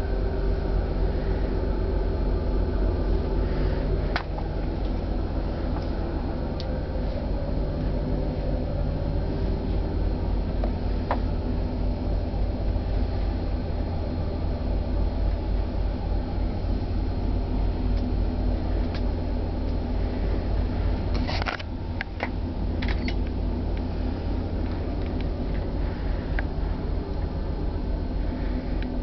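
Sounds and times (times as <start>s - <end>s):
ship engines droning: 0.0s - 29.0s.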